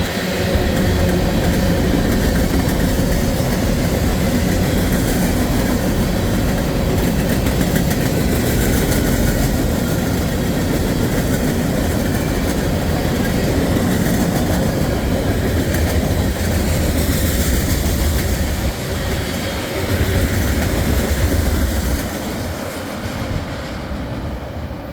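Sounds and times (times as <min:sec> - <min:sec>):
steel wheels clattering on rails: 0:00.0 - 0:24.6
freight train rumbling past: 0:00.0 - 0:24.9.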